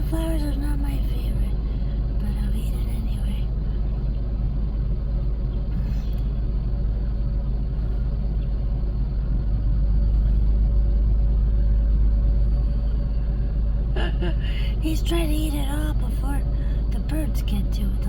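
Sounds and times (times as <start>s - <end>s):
car idling from inside cabin: 0.0s - 18.0s
faint steady hum: 0.0s - 18.0s.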